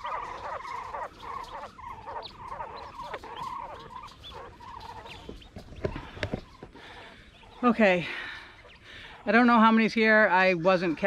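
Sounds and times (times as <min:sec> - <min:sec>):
quail chirping: 0:00.0 - 0:11.0.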